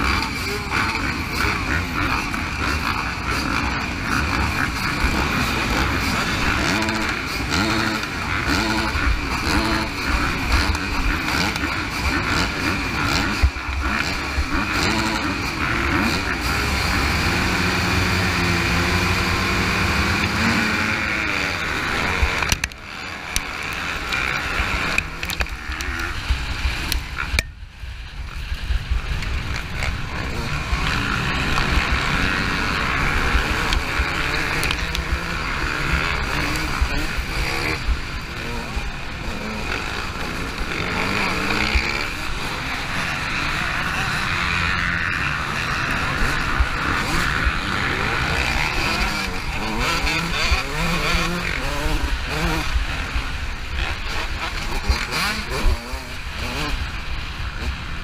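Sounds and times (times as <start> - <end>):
motocross bikes revving: 0.0 - 58.0
motorbike accelerating: 0.0 - 58.0.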